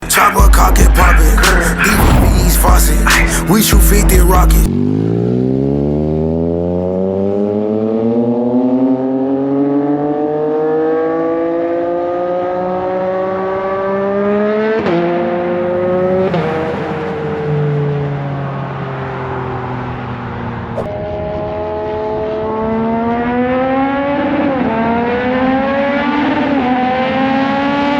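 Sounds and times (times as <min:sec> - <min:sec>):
motorcycle engine accelerating: 0:00.6 - 0:18.2, 0:20.5 - 0:27.9.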